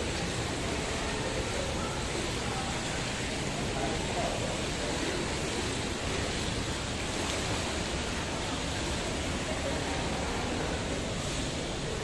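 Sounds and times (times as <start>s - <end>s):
churning water rushing: 0.0s - 12.0s
faint voices: 0.0s - 12.0s.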